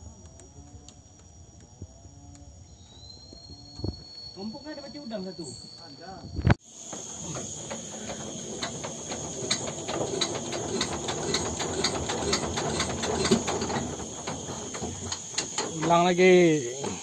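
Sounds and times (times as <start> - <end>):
high-pitched insect chirring: 0.0 - 17.0.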